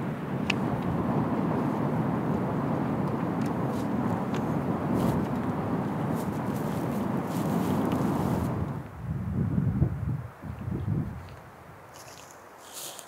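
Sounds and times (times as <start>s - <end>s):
wind rushing: 0.0s - 11.2s.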